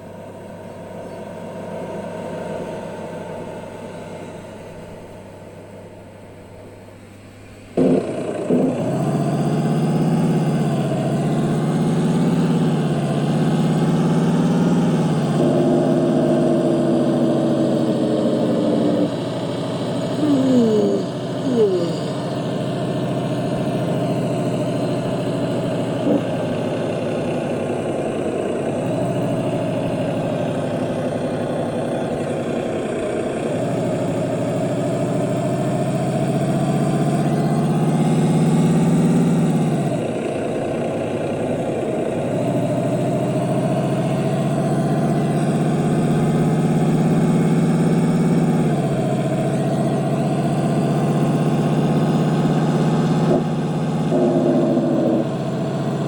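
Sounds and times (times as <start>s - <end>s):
truck diesel engine changing gear: 0.0s - 56.0s.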